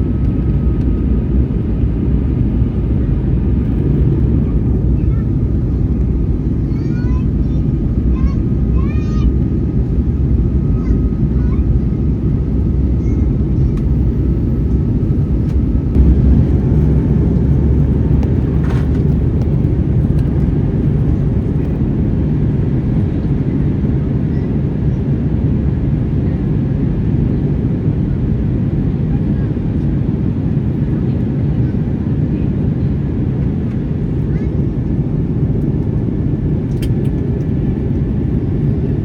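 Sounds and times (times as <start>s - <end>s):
airplane cabin engine roar: 0.0s - 39.0s.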